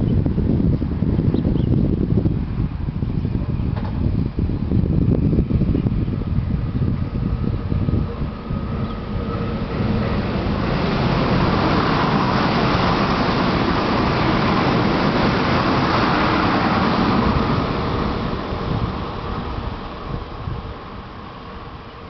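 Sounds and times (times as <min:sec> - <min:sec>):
train wheels on rail: 0:02.1 - 0:22.0.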